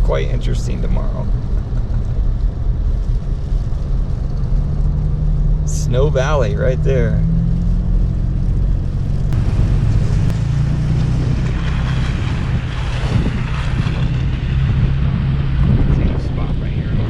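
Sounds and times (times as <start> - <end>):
low engine hum: 0.0 - 17.0
tyre and road noise: 0.0 - 17.0.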